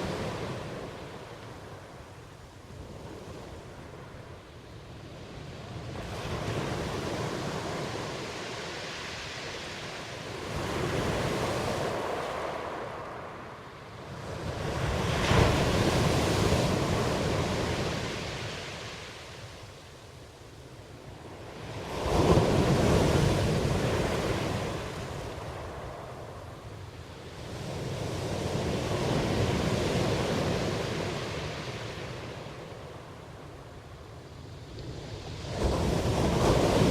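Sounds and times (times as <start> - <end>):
ocean waves washing in: 0.0 - 36.9.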